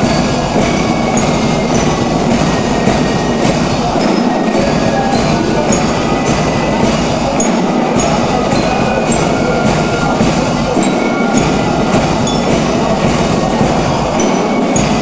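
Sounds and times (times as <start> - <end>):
loud marching music: 0.0 - 15.0.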